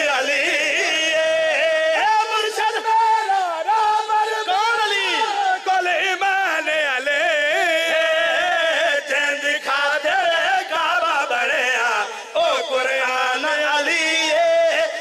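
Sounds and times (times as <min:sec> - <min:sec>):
men singing unaccompanied: 0:00.0 - 0:15.0.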